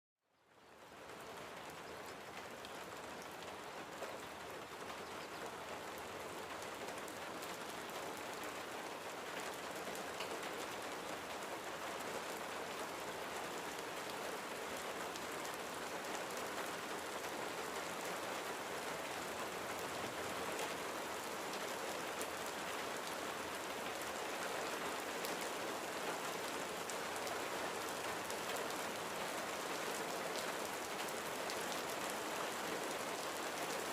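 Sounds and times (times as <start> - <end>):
rain on a window: 0.4 - 33.9.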